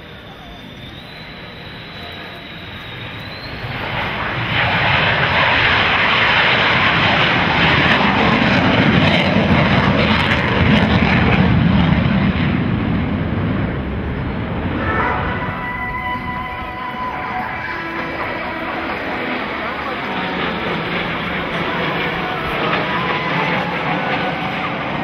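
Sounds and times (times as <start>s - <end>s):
fighter jet engine roar: 0.0s - 25.0s.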